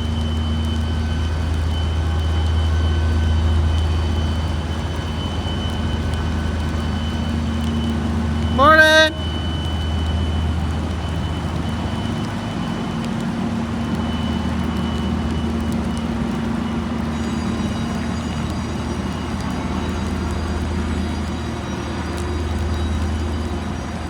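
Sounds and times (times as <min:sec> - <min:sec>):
ship engines droning: 0:00.0 - 0:24.0.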